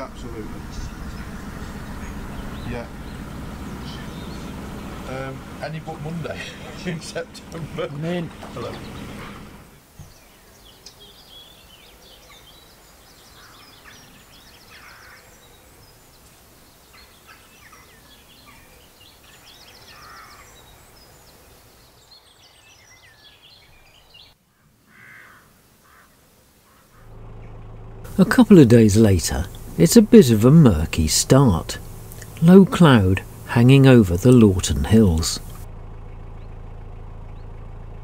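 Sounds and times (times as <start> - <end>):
harsh bird calls: 0.0 - 37.7
small birds chirping: 0.0 - 38.0.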